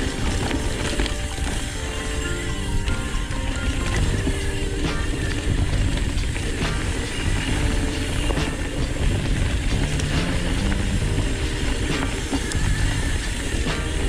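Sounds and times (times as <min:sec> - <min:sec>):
background music: 0:00.0 - 0:14.0
bike knocks and rattles: 0:00.0 - 0:14.0
tyre rumble on dirt: 0:00.0 - 0:14.0.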